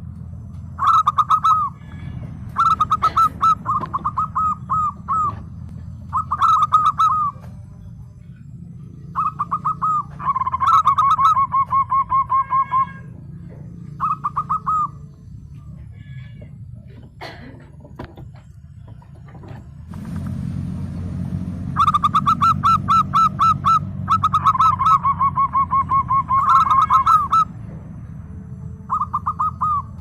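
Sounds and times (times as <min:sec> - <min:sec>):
low background rumble: 0:00.0 - 0:30.0
dove cooing: 0:00.6 - 0:19.6, 0:21.7 - 0:30.0.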